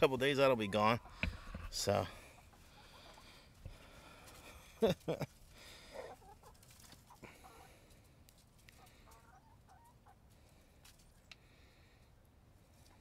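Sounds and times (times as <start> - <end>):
hens clucking: 0.0 - 11.4.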